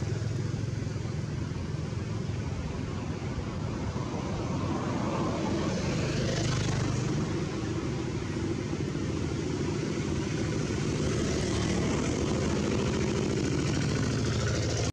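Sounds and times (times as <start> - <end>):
engine droning: 0.0 - 14.9.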